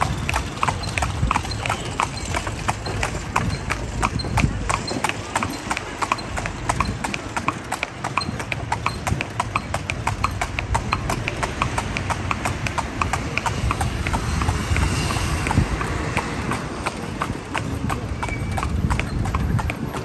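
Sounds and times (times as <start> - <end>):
horse hooves clip-clopping on pavement: 0.0 - 20.0.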